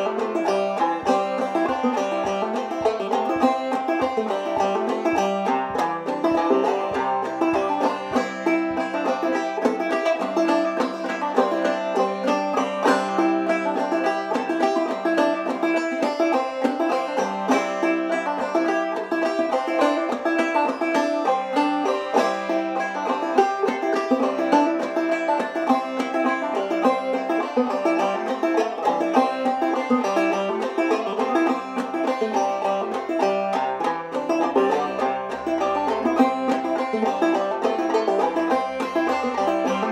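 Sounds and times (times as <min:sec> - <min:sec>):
banjo playing a fiddle tune: 0:00.0 - 0:39.9.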